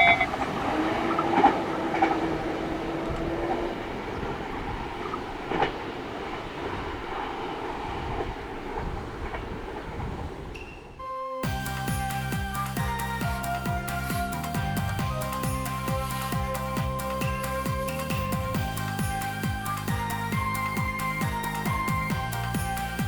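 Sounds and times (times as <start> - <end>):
train passing: 0.0 - 23.0
wheels clicking over rail joints: 0.0 - 23.0.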